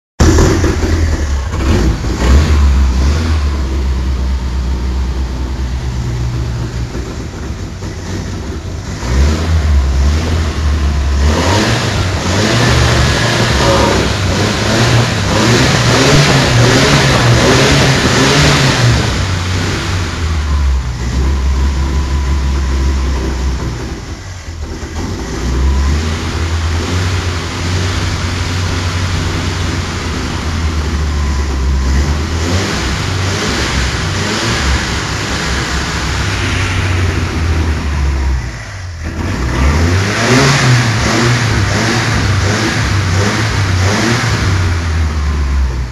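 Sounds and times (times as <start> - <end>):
car engine revving: 0.2 - 45.9.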